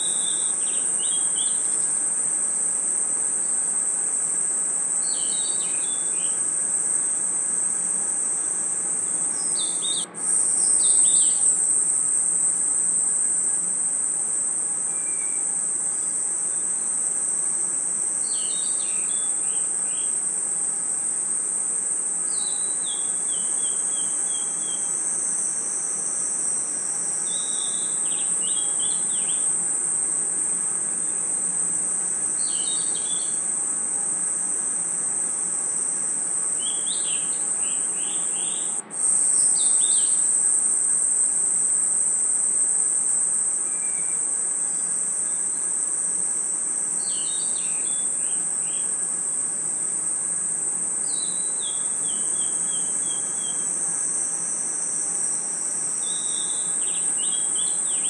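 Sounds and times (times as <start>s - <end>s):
insect chirping calls: 0.0s - 58.0s
insects trilling: 0.0s - 58.0s.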